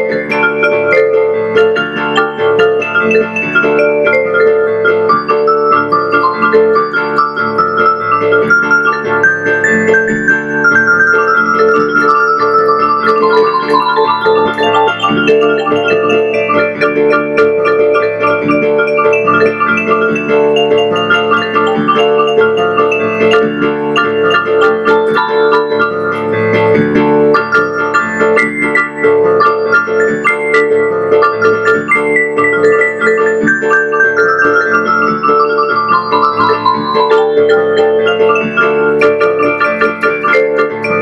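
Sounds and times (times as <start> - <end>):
electronic keyboard piano playing: 0.0 - 41.0.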